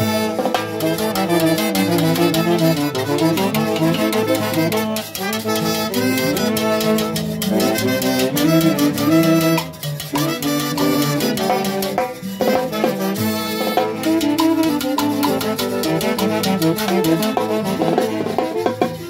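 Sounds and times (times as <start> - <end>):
trumpet: 0.0 - 19.0.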